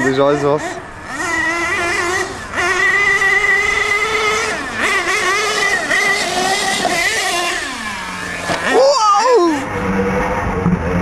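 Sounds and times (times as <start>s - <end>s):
rc truck engine high revs: 0.0s - 11.0s.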